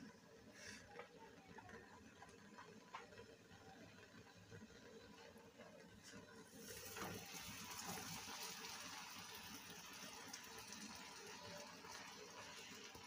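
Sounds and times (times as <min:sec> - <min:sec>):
flatbread sizzling on hot griddle: 0:02.4 - 0:13.0.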